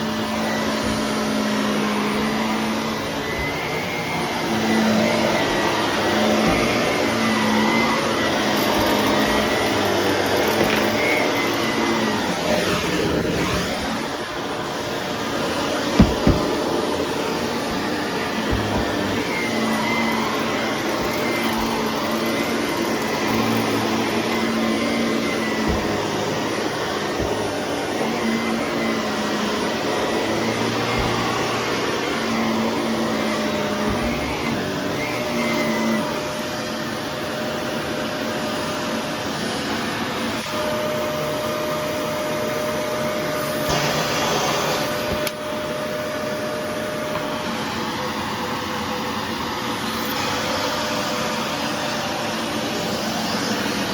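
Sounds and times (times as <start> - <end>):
vacuum cleaner motor hum: 0.0 - 53.9.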